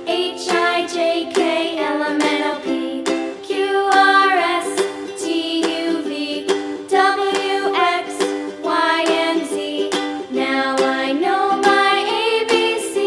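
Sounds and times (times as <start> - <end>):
cheerful children's music: 0.0 - 13.0
plucked ukulele: 0.0 - 13.0.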